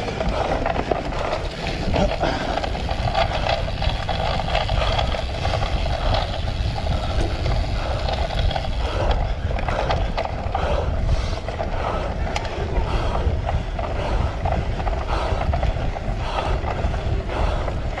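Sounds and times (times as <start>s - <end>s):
bike chain and frame rattling: 0.0s - 18.0s
wind and tyre noise: 0.0s - 18.0s.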